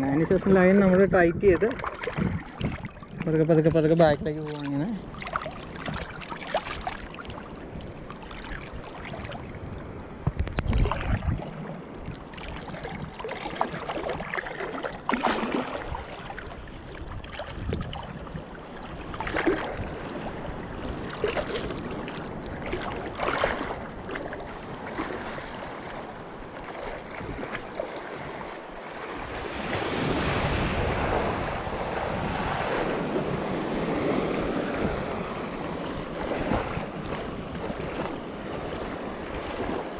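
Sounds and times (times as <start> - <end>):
sea waves splashing: 0.0 - 39.9
wind on microphone: 0.0 - 39.9.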